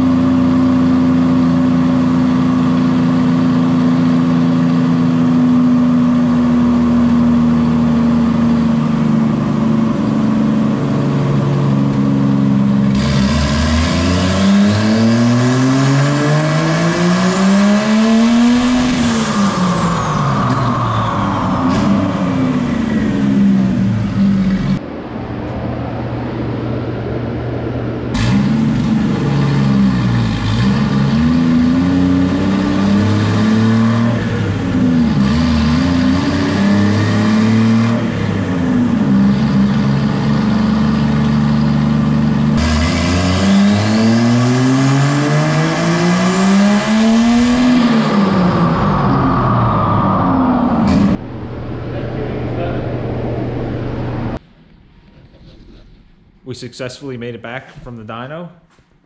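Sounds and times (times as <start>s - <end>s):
engine revving on a dyno: 0.0s - 24.9s, 27.9s - 54.4s.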